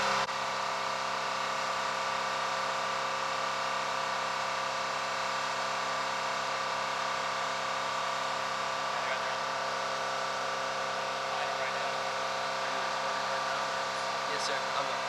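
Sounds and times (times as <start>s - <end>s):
engine whine: 0.0s - 15.0s.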